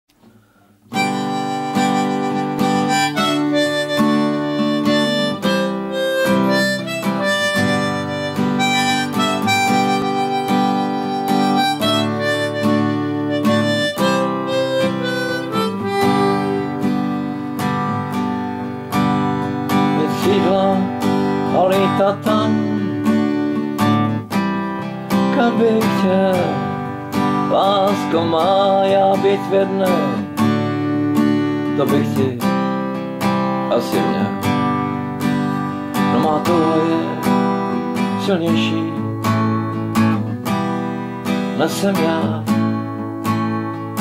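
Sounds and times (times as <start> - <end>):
strummed acoustic guitar: 0.6 - 44.0
harmonica folk melody: 0.8 - 44.0.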